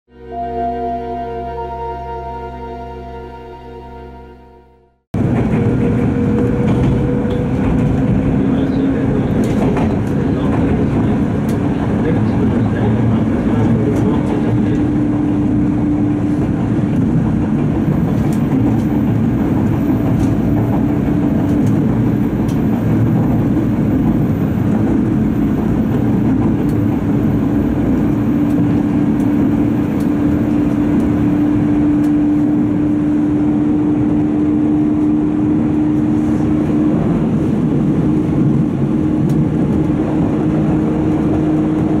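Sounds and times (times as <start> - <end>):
low hum: 0.1 - 42.0
train rumbling: 5.2 - 42.0.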